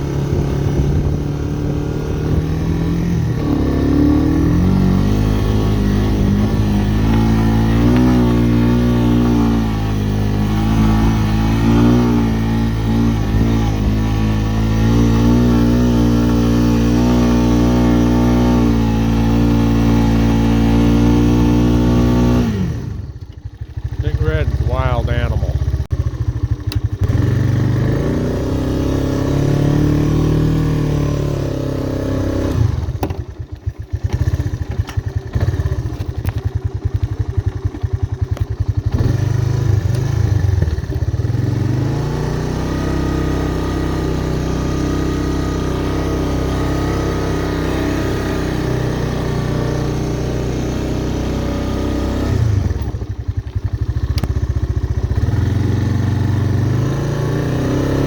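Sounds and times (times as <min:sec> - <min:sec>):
three-wheeler engine revving: 0:00.0 - 0:58.0.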